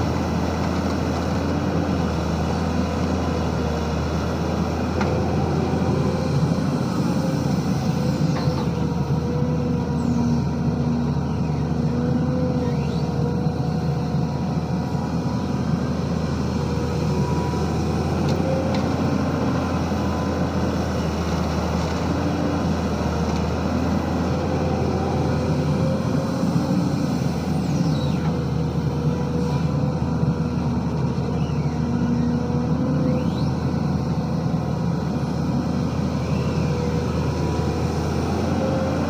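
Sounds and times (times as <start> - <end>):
excavator diesel engine under load: 0.0 - 39.0.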